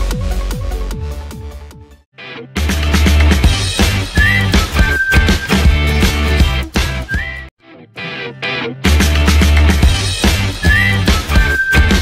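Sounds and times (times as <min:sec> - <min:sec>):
upbeat music with drums and bass: 0:00.0 - 0:02.0, 0:02.6 - 0:07.5, 0:08.4 - 0:12.0.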